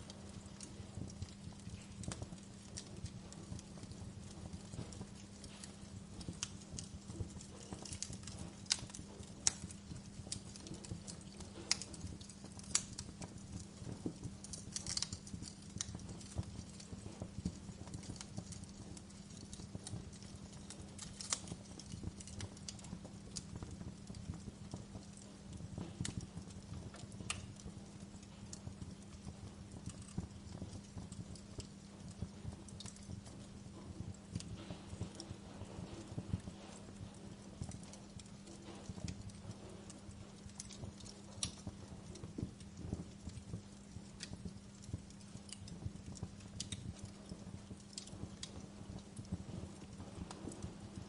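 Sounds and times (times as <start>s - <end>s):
steady low hum: 0.0s - 51.0s
wood fire crackling: 0.0s - 51.0s.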